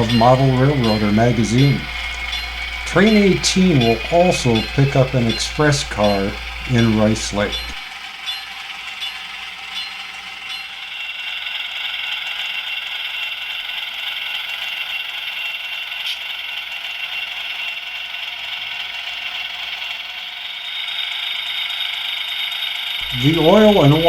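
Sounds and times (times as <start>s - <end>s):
model train motor whirring: 0.0s - 24.0s.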